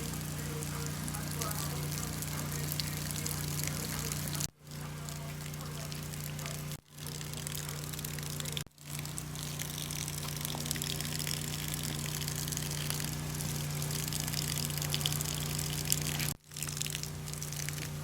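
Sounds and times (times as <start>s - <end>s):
low hum: 0.0s - 18.0s
water spraying: 0.0s - 18.0s.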